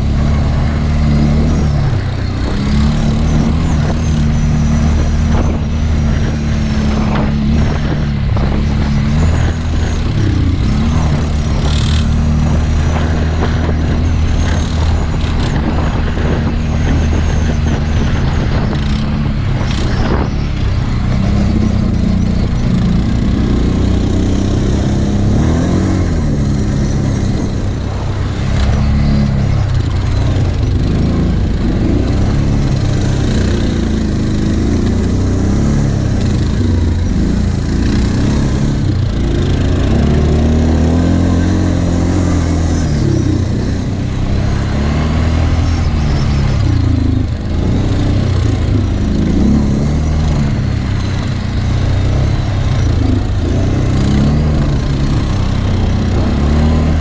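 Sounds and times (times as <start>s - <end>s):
quad bike engines revving: 0.0s - 57.0s.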